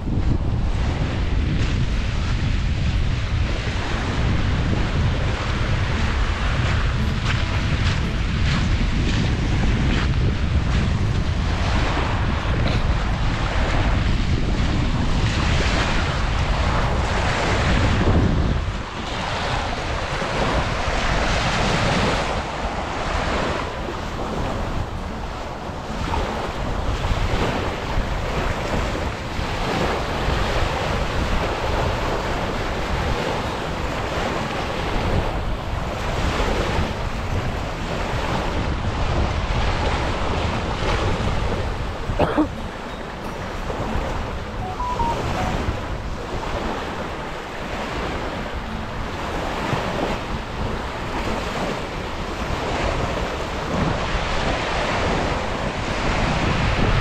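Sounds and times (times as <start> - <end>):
surf washing onto sandy beach: 0.0 - 57.0
wind buffeting microphone: 0.0 - 57.0.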